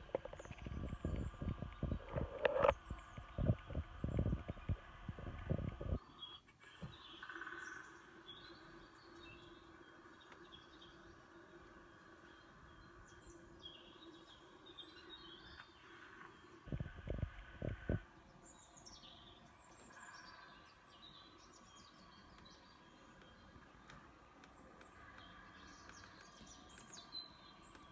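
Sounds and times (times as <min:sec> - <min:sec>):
faint bird chirps: 0:00.0 - 0:27.9
low steady hum: 0:00.0 - 0:27.9.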